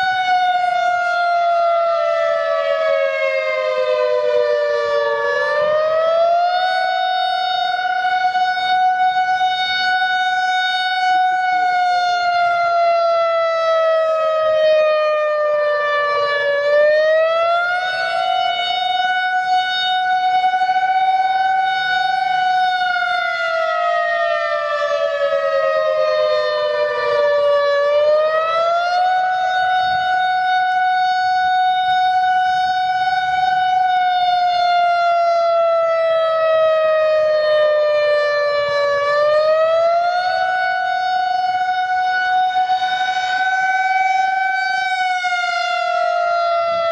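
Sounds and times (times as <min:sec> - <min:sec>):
wailing warning siren: 0:00.0 - 0:46.9.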